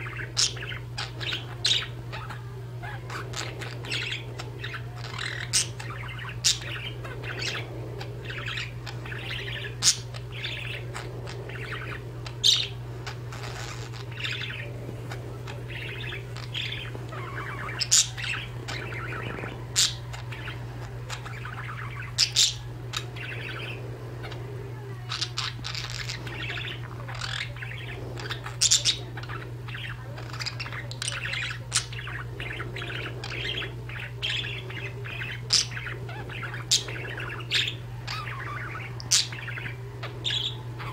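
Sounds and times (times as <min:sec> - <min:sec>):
budgerigars warbling twitter: 0:00.0 - 0:40.9
steady low hum: 0:00.0 - 0:40.9.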